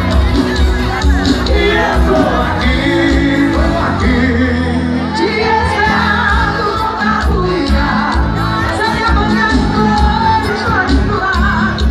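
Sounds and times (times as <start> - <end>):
heavy pulsing bass: 0.0 - 11.9
live band playing loud: 0.0 - 11.9
person singing: 1.4 - 11.9.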